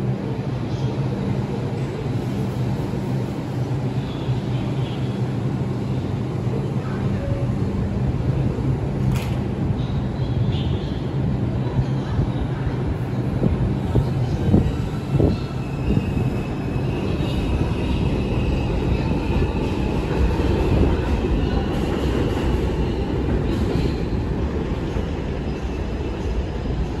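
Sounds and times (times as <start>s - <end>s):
subway train rumbling on track: 0.0s - 27.0s.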